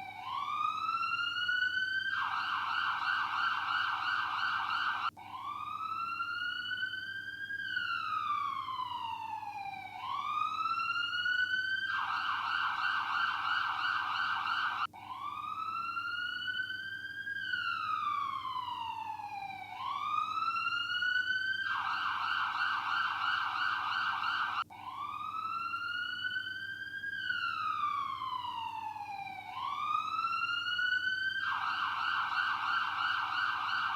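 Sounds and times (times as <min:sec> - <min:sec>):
ambulance siren wailing and warbling: 0:00.0 - 0:33.9.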